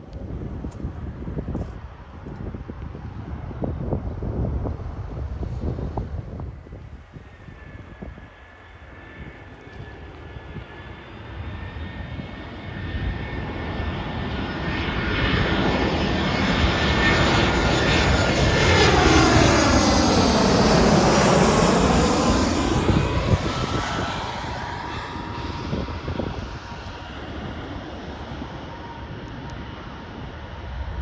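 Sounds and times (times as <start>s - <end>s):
jet engines of airliner passing: 0.0s - 31.0s.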